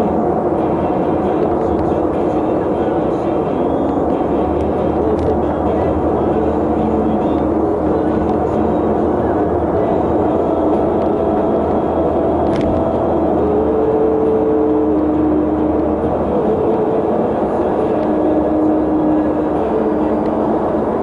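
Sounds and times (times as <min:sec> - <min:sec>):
vehicle road and engine noise: 0:00.0 - 0:21.0.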